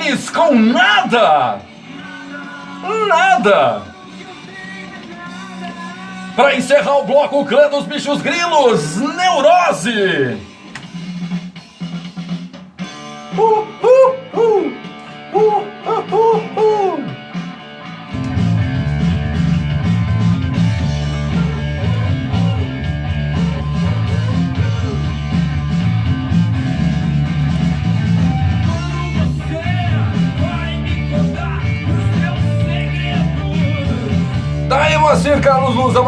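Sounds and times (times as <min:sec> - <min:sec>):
rock band with bass and drums: 0:00.0 - 0:36.0.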